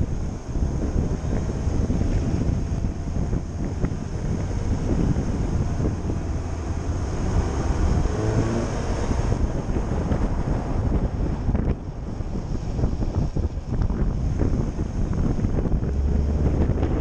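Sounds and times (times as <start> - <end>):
low road rumble: 0.0 - 17.0
wind buffeting microphone: 0.0 - 17.0.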